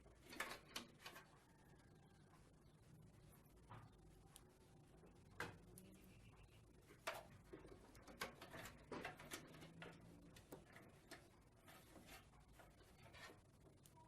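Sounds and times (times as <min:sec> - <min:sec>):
faint clicks and taps: 0:00.1 - 0:14.0.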